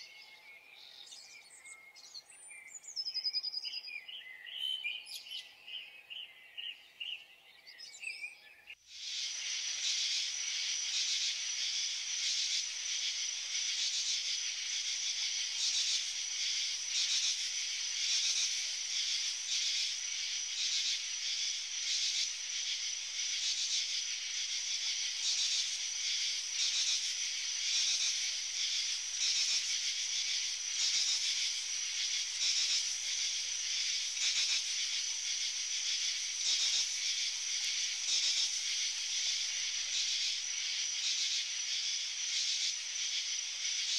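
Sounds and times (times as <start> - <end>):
night insects chorus: 0.0 - 43.9.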